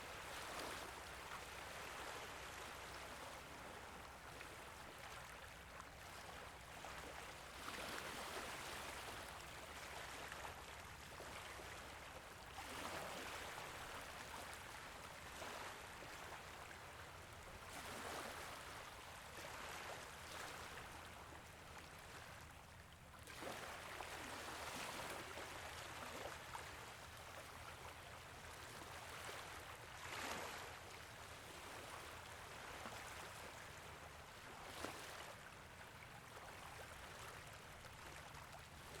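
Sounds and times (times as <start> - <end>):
small waves lapping at a beach: 0.0 - 39.0.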